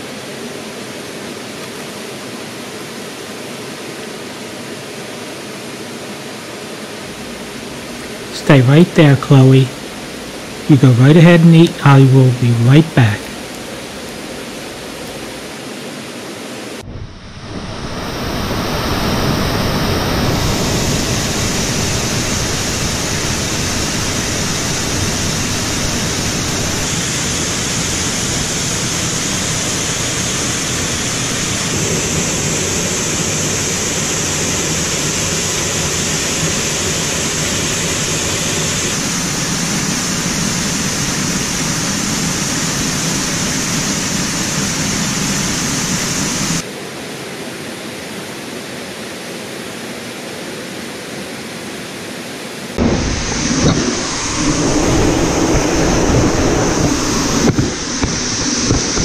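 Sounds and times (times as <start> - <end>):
running water rushing: 0.2 - 46.6, 52.8 - 59.0.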